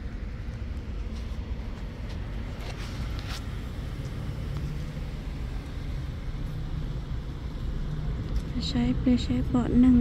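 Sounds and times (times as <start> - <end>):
parking lot low rumble: 0.0 - 10.0.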